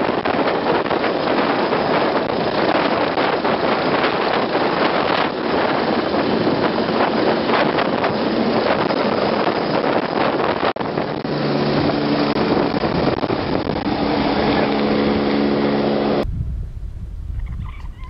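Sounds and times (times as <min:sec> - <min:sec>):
helicopter flying overhead: 0:00.0 - 0:18.0
wind buffeting microphone: 0:00.0 - 0:18.0.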